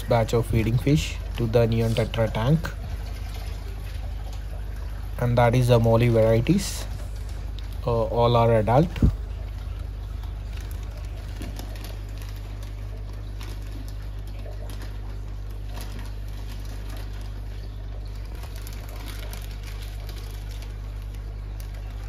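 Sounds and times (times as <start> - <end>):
filter pump hum: 0.0 - 22.0
small clicks and splashes: 0.0 - 22.0
water rushing: 0.0 - 22.0.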